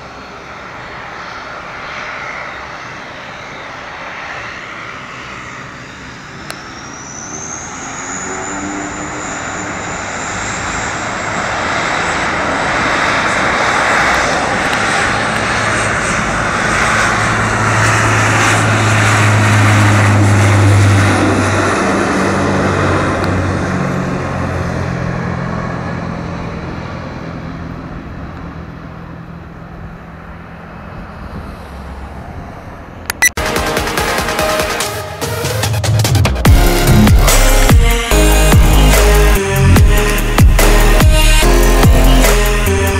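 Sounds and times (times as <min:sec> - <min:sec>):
high engine whine: 0:00.0 - 0:42.9
propeller drone and roar: 0:00.0 - 0:42.9
turboprop engines taking off: 0:00.0 - 0:42.9.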